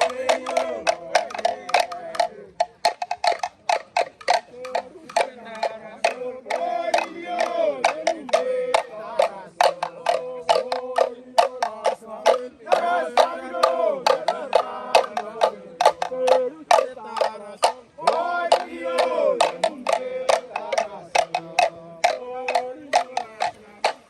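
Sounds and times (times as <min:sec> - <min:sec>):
sharp percussive strikes: 0:00.0 - 0:24.0
voices singing together: 0:00.0 - 0:24.0.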